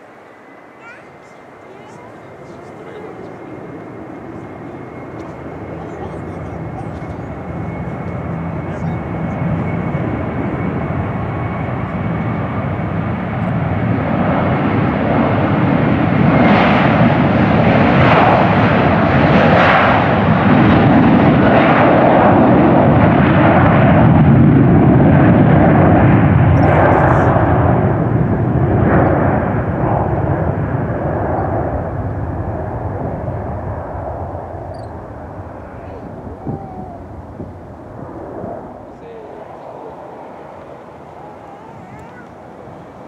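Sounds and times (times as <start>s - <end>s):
jet engine whine and roar: 0.0s - 43.0s.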